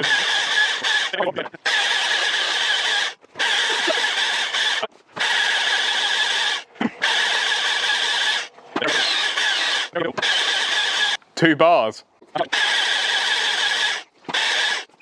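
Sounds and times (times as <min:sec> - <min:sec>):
chainsaw cutting logs: 0:00.0 - 0:11.2, 0:12.4 - 0:15.0.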